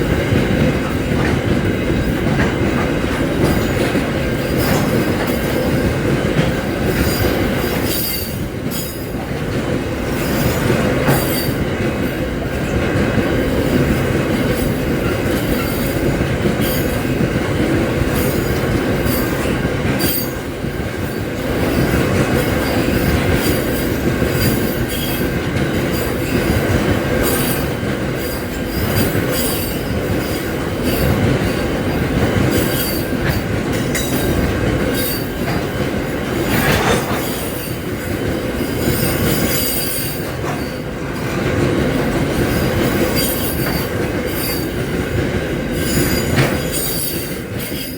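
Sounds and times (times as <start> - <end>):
freight train wagons rumbling: 0.0 - 47.9.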